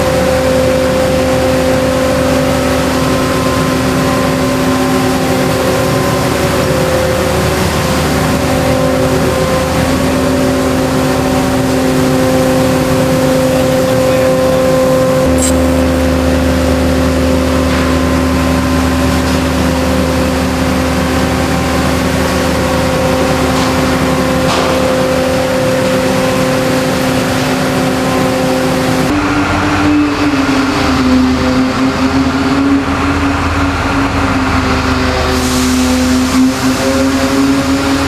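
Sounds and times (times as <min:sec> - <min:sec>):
heavy machinery humming: 0:00.0 - 0:38.0.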